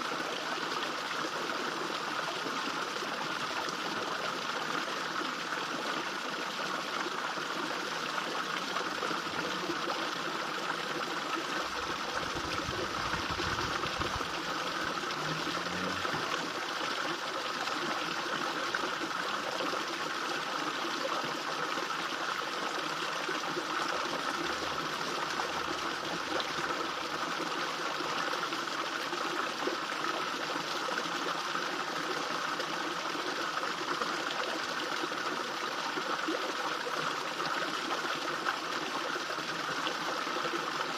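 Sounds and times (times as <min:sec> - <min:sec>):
waterfall splashing into pond: 0:00.0 - 0:40.9.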